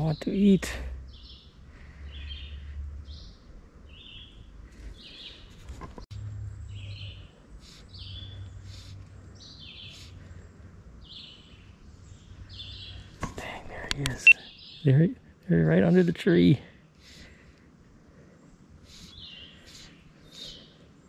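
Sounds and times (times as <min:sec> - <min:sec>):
low outdoor rumble: 0:00.0 - 0:21.0
songbird chirping: 0:00.0 - 0:21.0.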